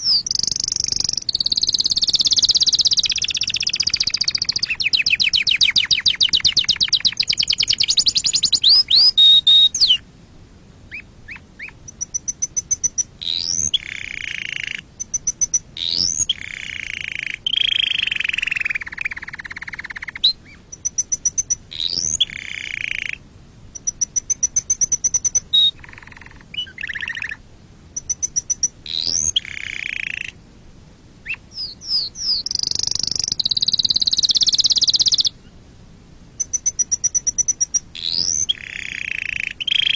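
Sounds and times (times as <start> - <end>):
canary singing: 0.0 - 10.0, 10.9 - 27.4, 28.0 - 30.4, 31.2 - 35.4, 36.4 - 39.9.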